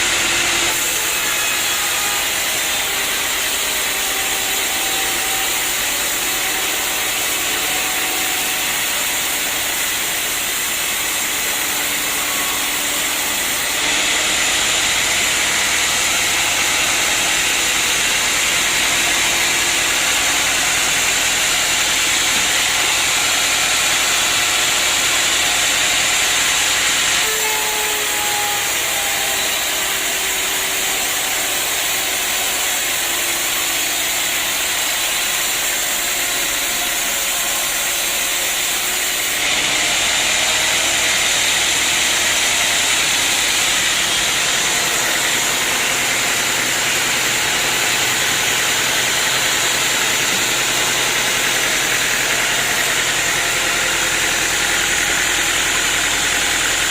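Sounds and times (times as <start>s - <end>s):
sawmill machinery hissing: 0.0s - 56.9s.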